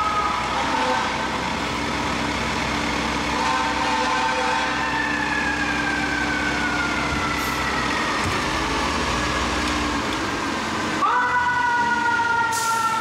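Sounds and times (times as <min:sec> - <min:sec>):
fire truck siren wailing: 0:00.0 - 0:13.0
truck engine rumble: 0:00.0 - 0:13.0.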